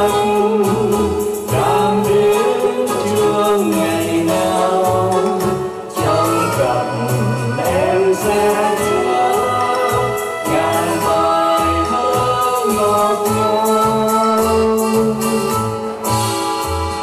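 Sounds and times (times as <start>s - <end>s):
man and woman singing duet: 0.0s - 15.8s
electronic keyboard: 0.0s - 17.0s
programmed drum rhythm: 0.0s - 17.0s.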